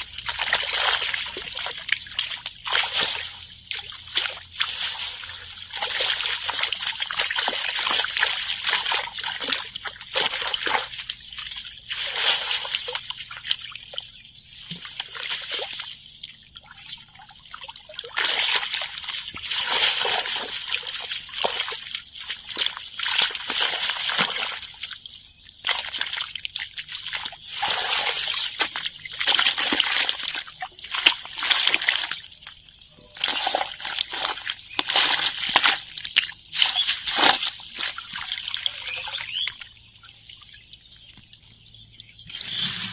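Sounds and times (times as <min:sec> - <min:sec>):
water splashing and sloshing: 0:00.0 - 0:42.9.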